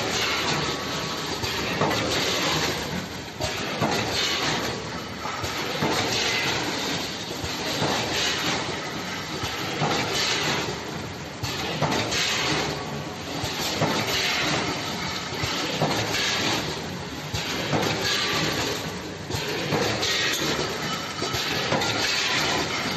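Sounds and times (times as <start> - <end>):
packing machine clatter: 0.0 - 22.9.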